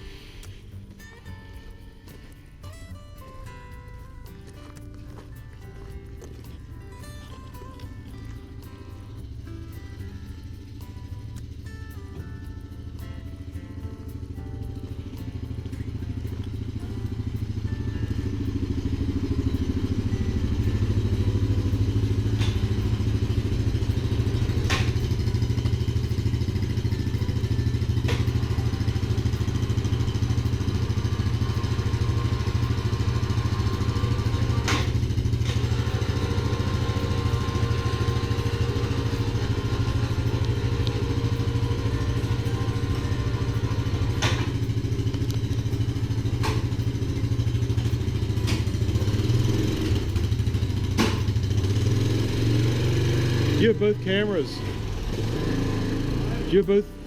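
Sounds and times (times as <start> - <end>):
vehicle engine running: 0.0 - 57.0
sharp knocks and rattles: 0.6 - 56.4.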